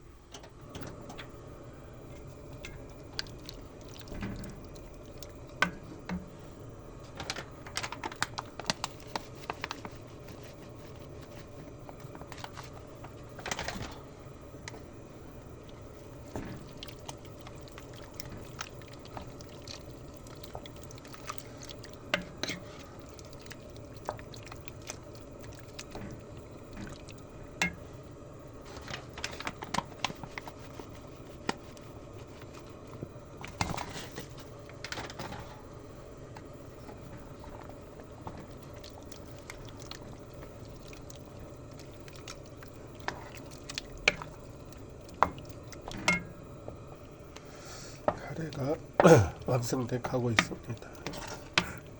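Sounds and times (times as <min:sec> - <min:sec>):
thick liquid bubbling in a pot: 0:00.0 - 0:51.9.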